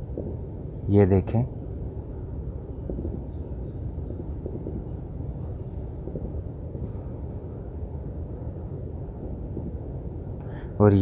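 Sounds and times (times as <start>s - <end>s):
faint high-pitched hum: 0.0s - 11.0s
low rumbling noise: 0.0s - 11.0s.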